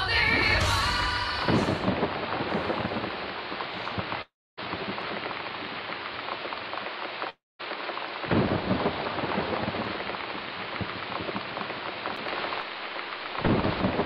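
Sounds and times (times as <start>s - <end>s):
thunder rumbling: 0.0s - 6.9s, 8.2s - 12.6s, 13.4s - 14.0s
steady rain hissing: 0.1s - 14.0s.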